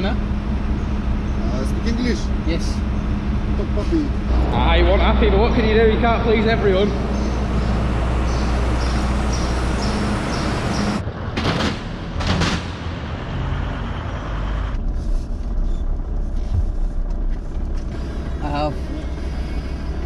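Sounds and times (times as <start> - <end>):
van engine running: 0.0 - 20.0.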